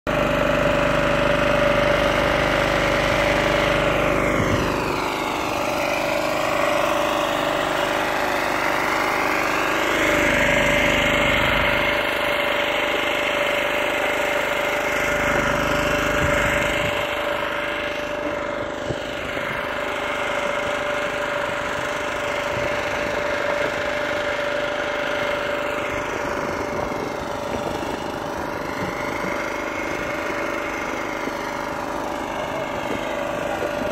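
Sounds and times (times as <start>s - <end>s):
generator humming: 0.1s - 33.9s
welding machine whining: 0.1s - 33.9s.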